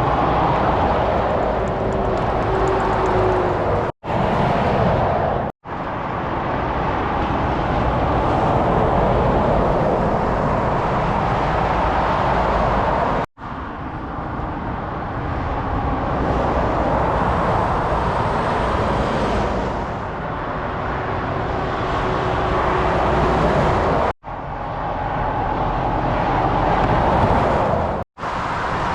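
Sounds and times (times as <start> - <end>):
motorway traffic roar: 0.0 - 28.9.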